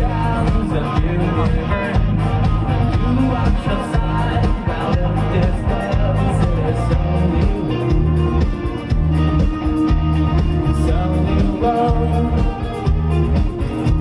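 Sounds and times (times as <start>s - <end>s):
electric guitar: 0.0s - 14.0s
rock band playing live: 0.0s - 14.0s.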